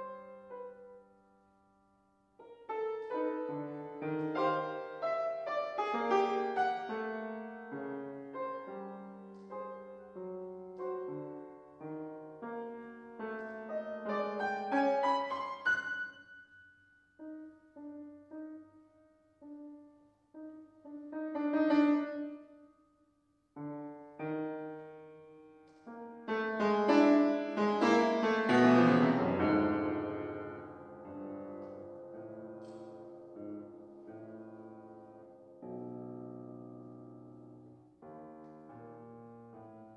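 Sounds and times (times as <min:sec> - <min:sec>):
grand piano playing: 0:02.4 - 0:22.7, 0:23.6 - 0:39.9.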